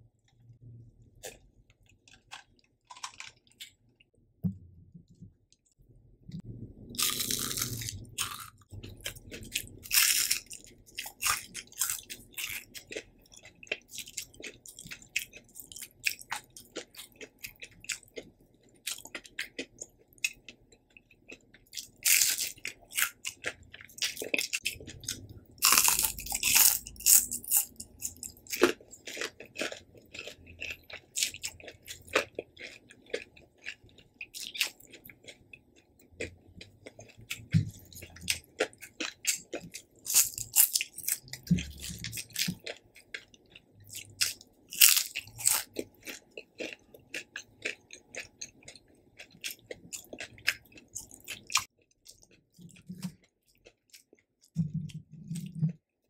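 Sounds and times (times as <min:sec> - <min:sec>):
crunchy chewing: 0:01.2 - 0:03.8, 0:06.9 - 0:55.8.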